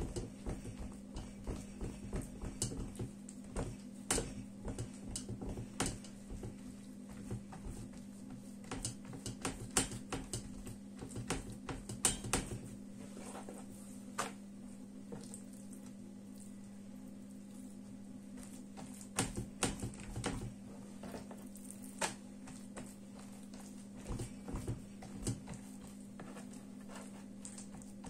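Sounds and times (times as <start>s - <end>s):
hands patting dough: 0.0s - 28.0s
steady low hum: 0.0s - 28.0s.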